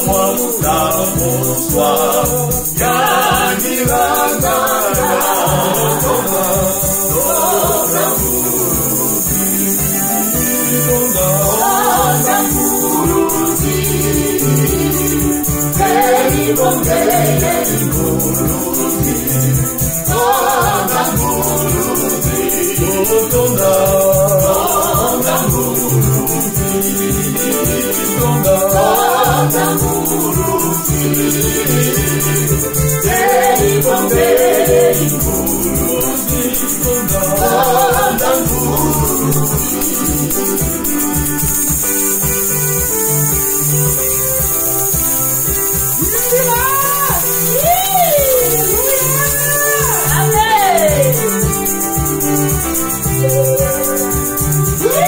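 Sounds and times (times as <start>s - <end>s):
electronic keyboard: 0.0s - 55.0s
man and woman singing hymn: 0.0s - 55.0s
maracas shaking: 0.0s - 55.0s.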